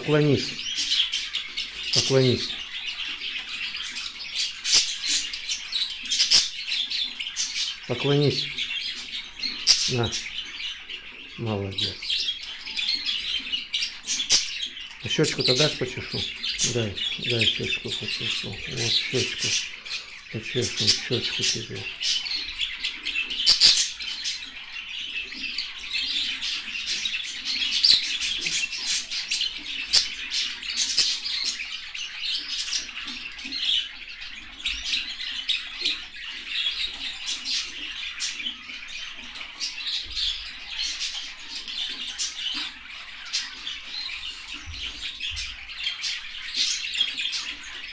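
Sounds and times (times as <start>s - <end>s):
parrots chirping and chattering: 0.0s - 47.9s.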